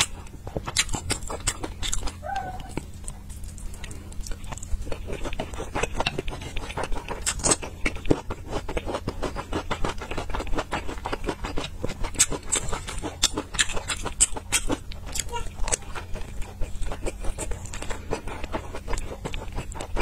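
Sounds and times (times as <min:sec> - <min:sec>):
low steady hum: 0:00.0 - 0:20.0
mouth chewing soft bun: 0:00.0 - 0:20.0.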